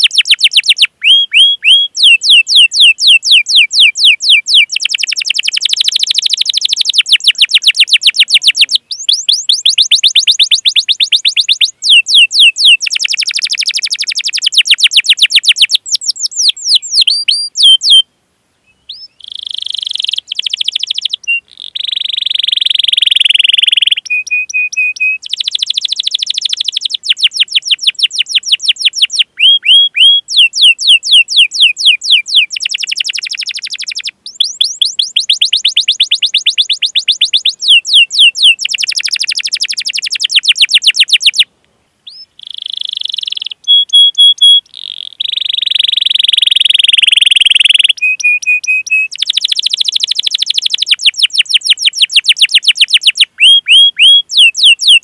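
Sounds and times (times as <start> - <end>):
canary singing trills and chirps: 0.0 - 18.0, 18.7 - 55.0.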